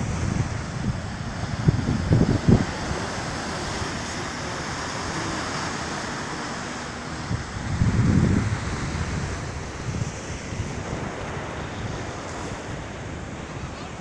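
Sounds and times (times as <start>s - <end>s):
sea surf breaking over rocks: 0.0s - 14.0s
wind buffeting microphone: 0.0s - 14.0s.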